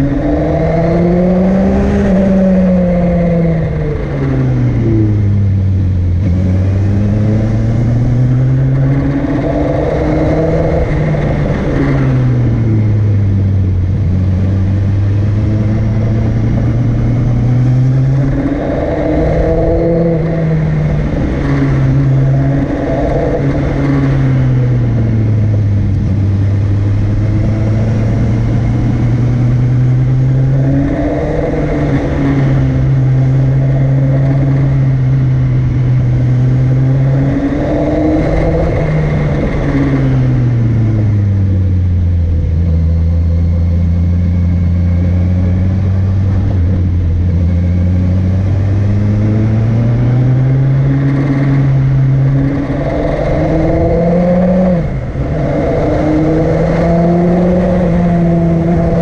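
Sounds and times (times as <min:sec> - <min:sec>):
motorcycle engine climbing uphill: 0:00.0 - 0:59.0.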